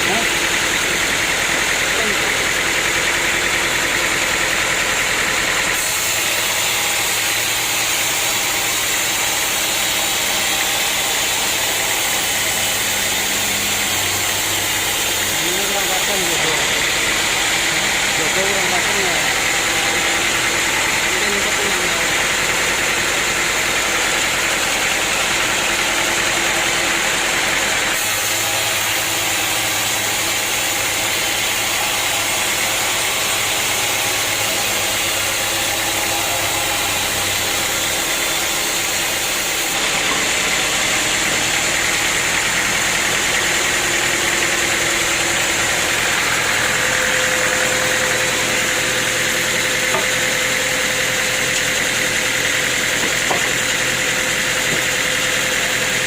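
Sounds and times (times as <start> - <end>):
motor hum: 0.0 - 56.0
sawmill machinery hissing: 0.0 - 56.0.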